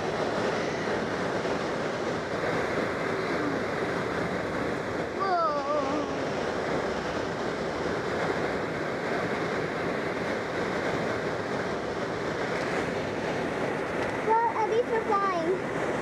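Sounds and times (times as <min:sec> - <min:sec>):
air rushing around cockpit: 0:00.0 - 0:16.0.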